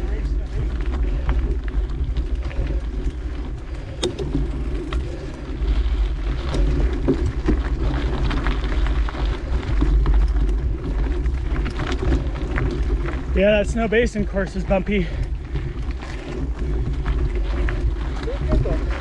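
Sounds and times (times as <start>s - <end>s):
bike clicks and rattles: 0.0s - 19.0s
tyres rolling on dirt: 0.0s - 19.0s.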